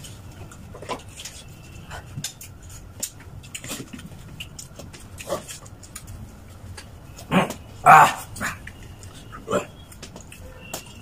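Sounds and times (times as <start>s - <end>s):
people chewing and lip-smacking: 0.0s - 11.0s.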